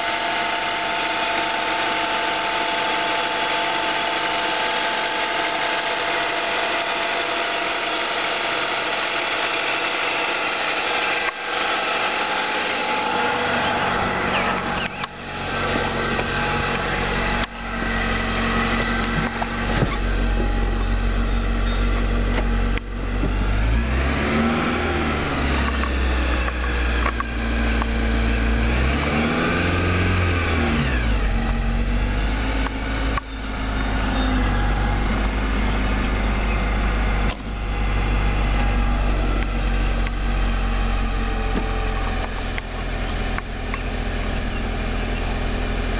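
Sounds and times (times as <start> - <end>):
steady high-pitched whine: 0.0 - 23.8, 31.1 - 45.9
car engine running: 0.0 - 45.9.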